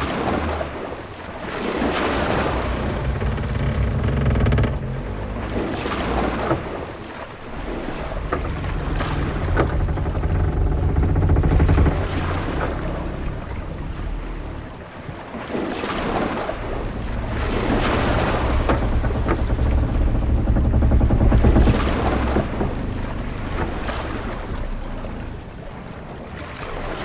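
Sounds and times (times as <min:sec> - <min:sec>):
waves washing: 0:00.0 - 0:27.0
wind: 0:00.0 - 0:27.0
low rumble: 0:02.2 - 0:15.0, 0:16.4 - 0:25.8.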